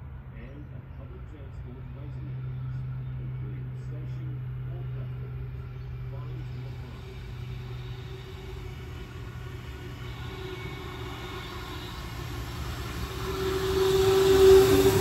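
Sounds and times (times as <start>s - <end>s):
electric train running: 1.0s - 15.0s.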